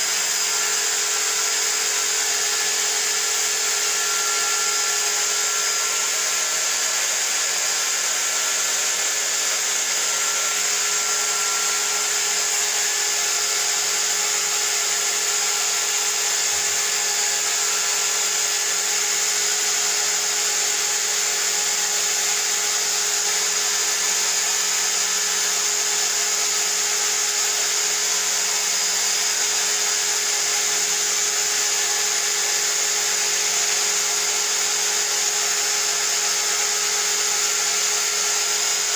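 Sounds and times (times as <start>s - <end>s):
steady whining tones: 0.0s - 34.4s
electric motor running: 0.0s - 38.9s.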